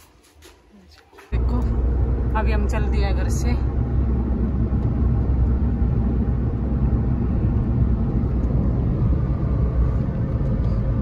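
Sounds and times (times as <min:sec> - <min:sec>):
vehicle engine and road rumble: 0:00.9 - 0:11.0.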